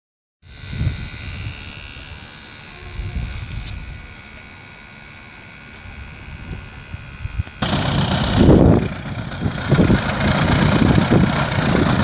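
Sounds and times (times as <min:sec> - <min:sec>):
electric fuel pump whining: 0:00.4 - 0:12.0.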